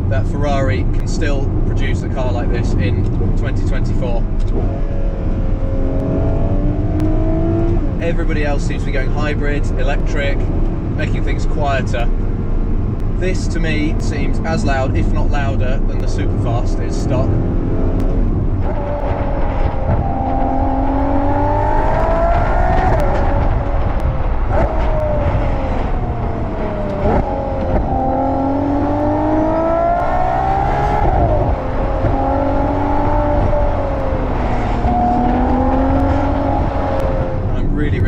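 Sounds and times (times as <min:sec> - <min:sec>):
car engine revving through gears: 0:00.7 - 0:38.0.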